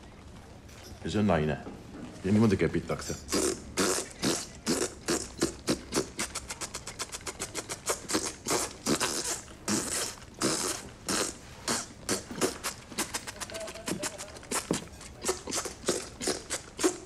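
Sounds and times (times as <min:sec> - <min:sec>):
man beatboxing clicks and pops: 0:03.2 - 0:17.0.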